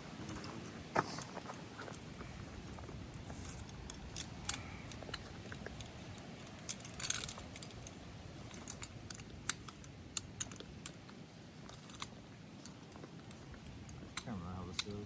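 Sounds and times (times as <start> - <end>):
camp cooking gear clinking: 0.0 - 15.0.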